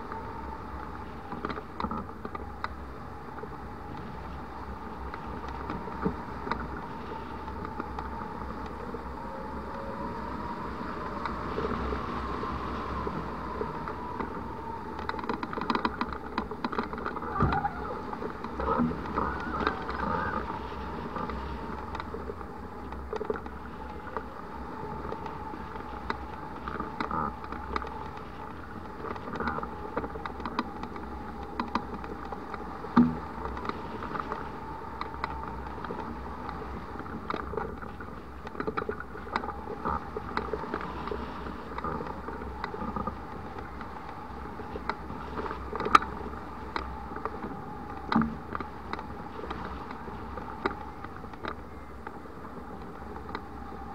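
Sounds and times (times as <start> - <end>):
sail and rigging rattling: 0.0 - 53.9
wind rush on camera: 0.0 - 53.9.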